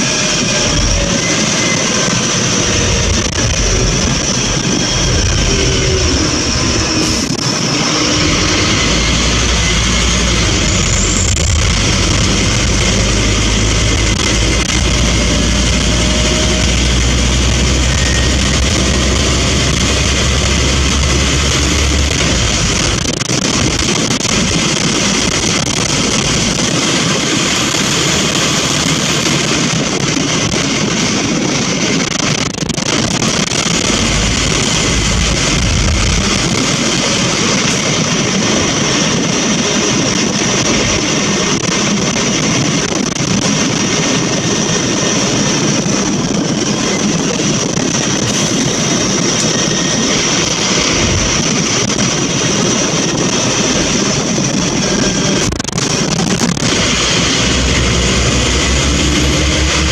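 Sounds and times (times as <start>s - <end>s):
bus engine drone: 0.0s - 59.9s
road and body noise: 0.0s - 59.9s.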